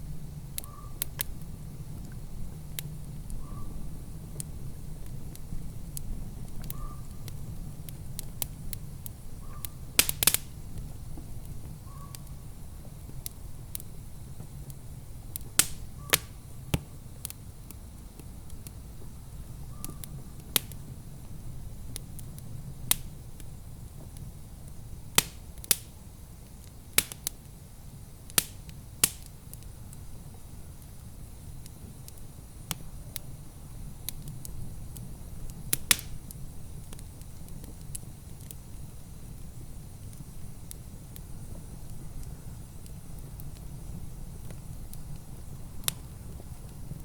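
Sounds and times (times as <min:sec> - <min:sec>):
low fire rumble: 0:00.0 - 0:47.0
wood fire crackling and popping: 0:00.0 - 0:47.0.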